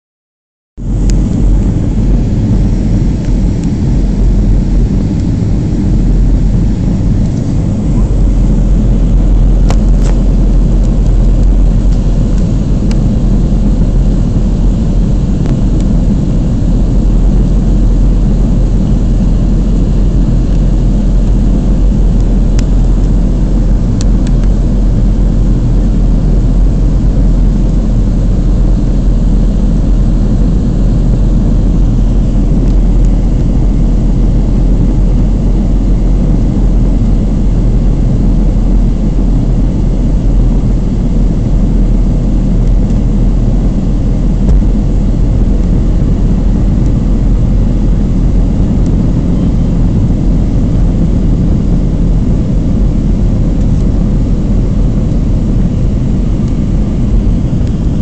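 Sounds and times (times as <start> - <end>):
jet cabin engine rumble: 0.8 - 58.0.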